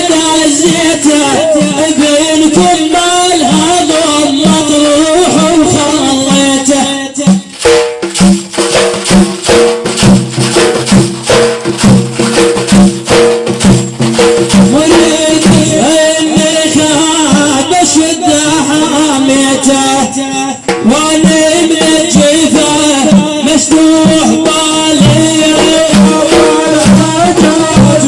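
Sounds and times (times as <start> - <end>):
shaken rattle percussion: 0.1 - 17.8, 18.4 - 28.0.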